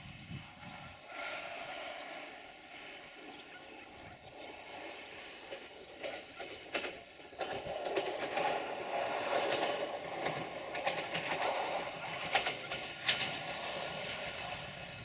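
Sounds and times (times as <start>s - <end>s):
train approaching: 0.0s - 15.0s
wheels clicking over rail joints: 1.0s - 15.0s.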